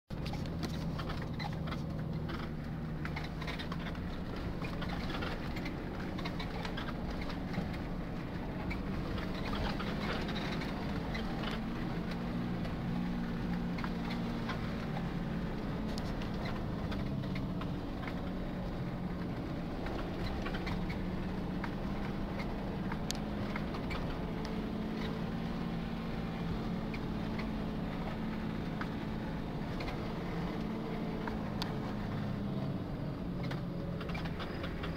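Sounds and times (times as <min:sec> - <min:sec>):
car engine running: 0:00.1 - 0:34.9
small clicks and rattles: 0:00.2 - 0:34.9.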